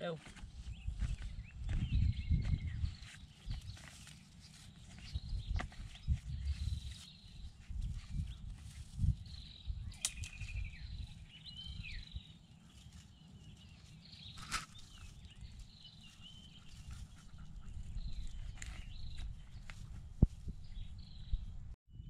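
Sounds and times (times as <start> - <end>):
wind gusting on microphone: 0.4 - 3.8, 4.8 - 12.3, 14.1 - 22.0.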